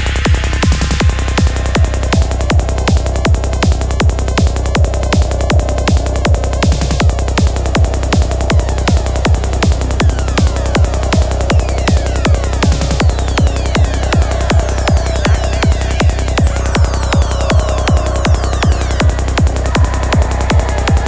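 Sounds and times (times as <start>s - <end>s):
four-on-the-floor kick drum: 0.0s - 21.0s
rolling bassline: 0.0s - 21.0s.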